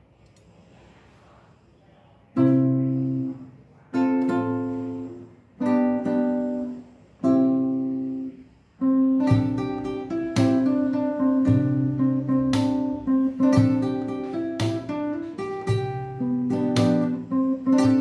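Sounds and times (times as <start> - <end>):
acoustic guitar fingerstyle: 2.3 - 18.0.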